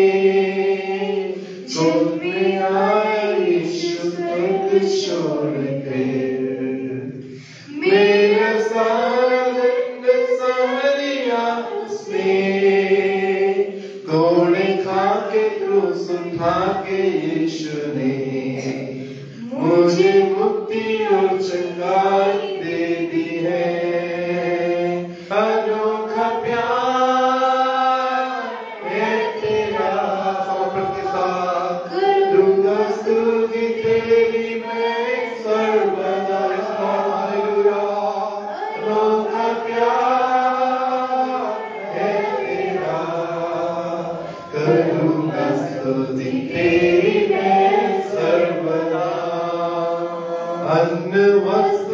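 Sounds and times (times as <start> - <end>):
man singing into microphone: 0.0 - 13.3, 13.9 - 51.9.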